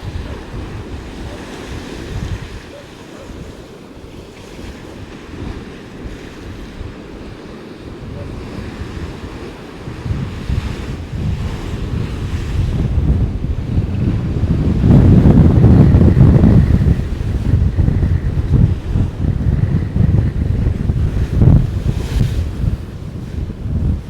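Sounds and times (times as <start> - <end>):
storm waves crashing: 0.0 - 24.0
wind buffeting microphone: 0.0 - 24.0.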